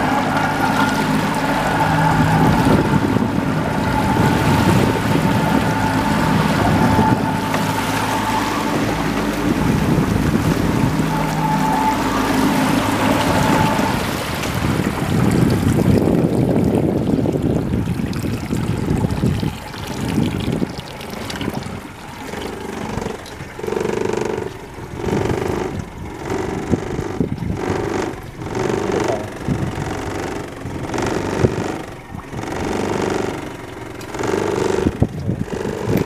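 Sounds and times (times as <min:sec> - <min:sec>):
outboard motor running: 0:00.0 - 0:36.0
water rushing past hull: 0:00.0 - 0:36.0.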